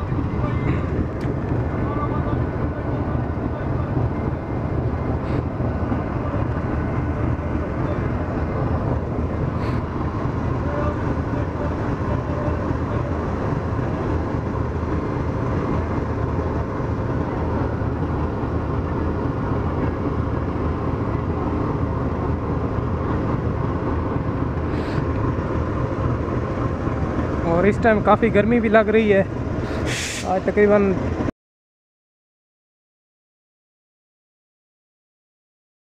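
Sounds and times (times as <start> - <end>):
diesel locomotive idling: 0.0 - 31.3.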